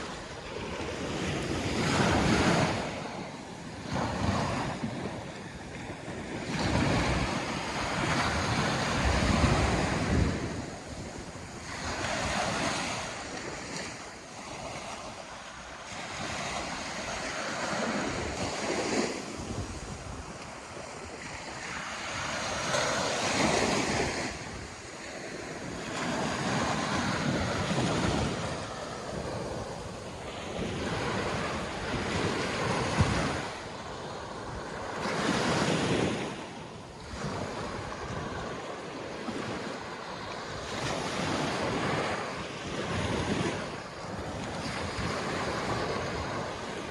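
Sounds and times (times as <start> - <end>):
waves breaking on a beach: 0.0 - 46.9
wind on microphone: 0.0 - 46.9.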